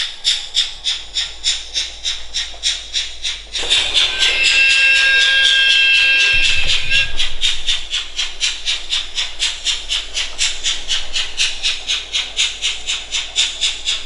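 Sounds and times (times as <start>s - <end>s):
model steam locomotive chuffs: 0.0s - 14.0s.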